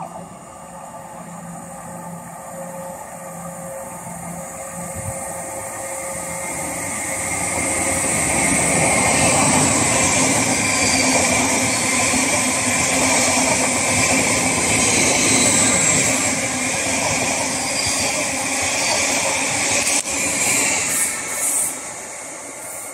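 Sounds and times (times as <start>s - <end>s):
train wheels rushing on rail: 0.0s - 22.9s.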